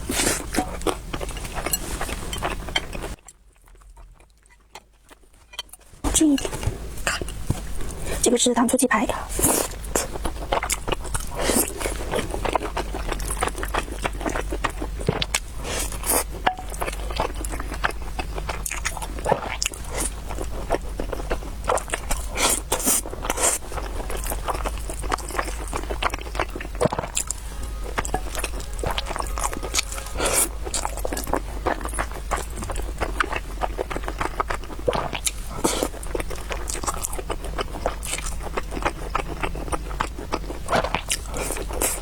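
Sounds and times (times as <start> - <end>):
biting and chewing food: 0.0 - 8.2, 9.3 - 42.0.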